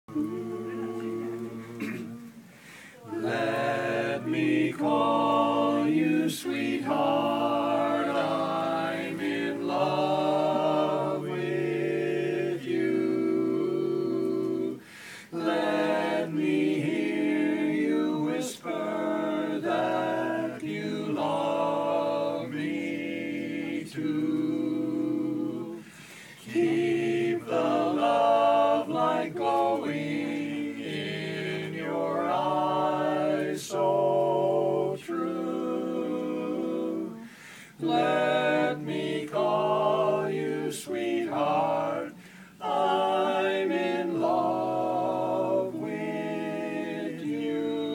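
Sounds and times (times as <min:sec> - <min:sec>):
barbershop quartet singing a cappella: 0:00.0 - 0:47.9.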